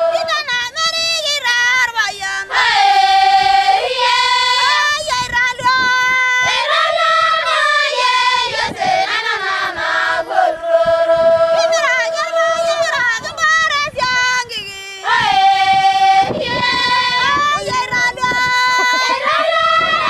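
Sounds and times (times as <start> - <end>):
high voices singing held notes: 0.0 - 0.8, 2.1 - 20.0.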